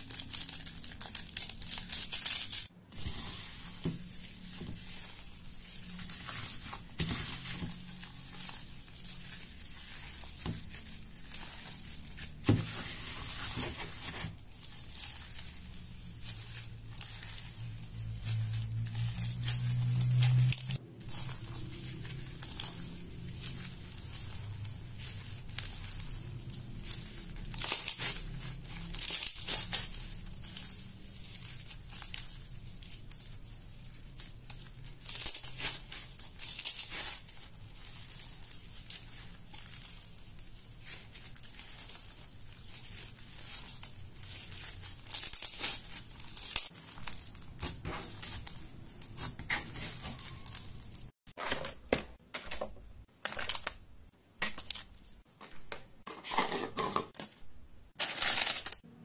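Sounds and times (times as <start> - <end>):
foam beads crackling: 0.0 - 51.2, 58.0 - 58.9
plastic bag crinkling: 0.0 - 53.8, 58.0 - 58.9.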